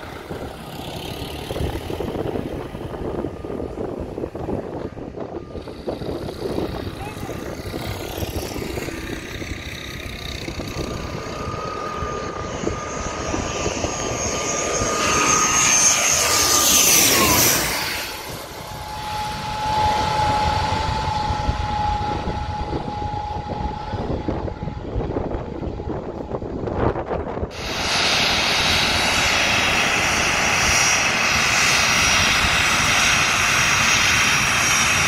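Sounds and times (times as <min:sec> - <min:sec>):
turboprop airliner flying overhead: 0:00.0 - 0:35.0.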